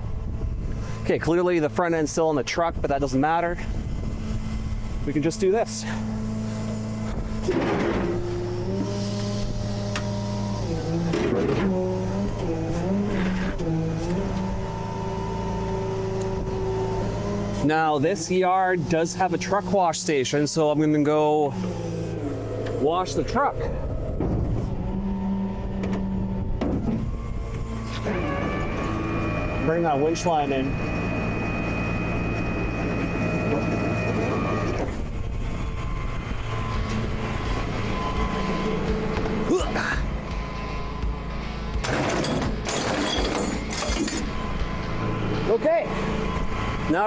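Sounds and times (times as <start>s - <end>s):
steady high whine: 0.0s - 47.0s
truck engine running: 0.0s - 47.0s.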